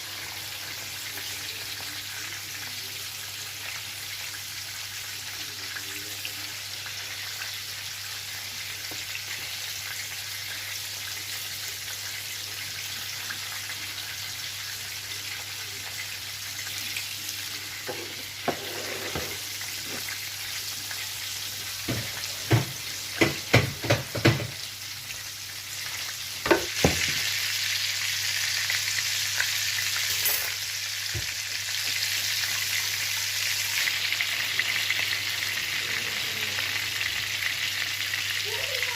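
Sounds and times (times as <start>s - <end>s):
fish frying in oil: 0.0s - 38.9s.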